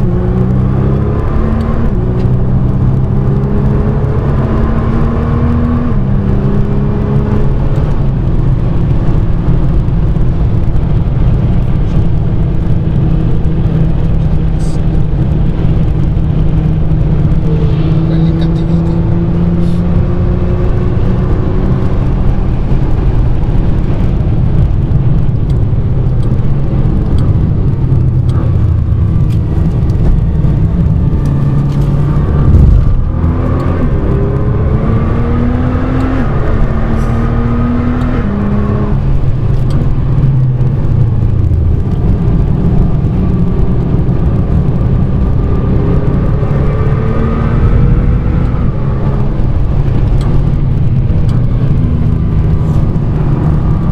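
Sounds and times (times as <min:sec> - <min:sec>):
car engine revving: 0:00.0 - 0:53.9
road rumble: 0:00.0 - 0:53.9.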